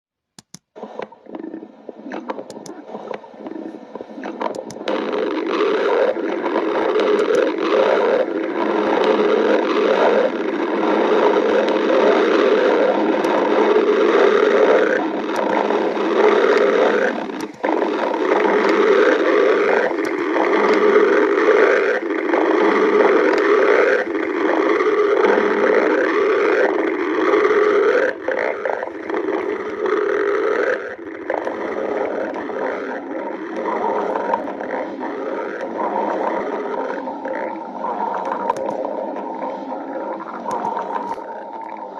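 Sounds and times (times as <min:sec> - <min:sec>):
stomach growling: 0:00.4 - 0:41.9.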